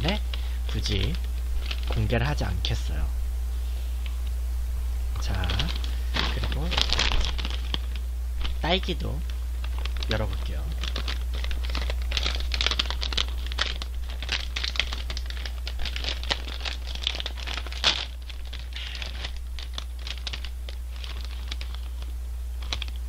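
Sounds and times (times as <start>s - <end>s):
plastic bag crinkling and tearing: 0.0s - 2.4s, 5.2s - 23.0s.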